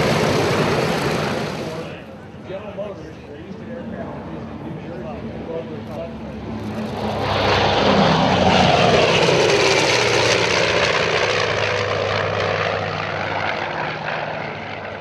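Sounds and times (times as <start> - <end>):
propeller plane fly-by: 0.0 - 15.0.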